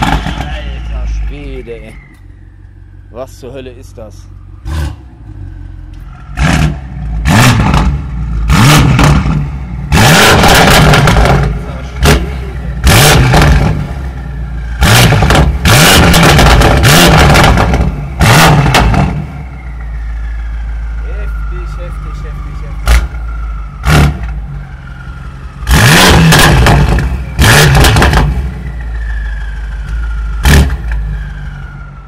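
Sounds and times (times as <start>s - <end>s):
car engine revving: 0.0s - 31.8s
car engine idling: 0.0s - 32.0s.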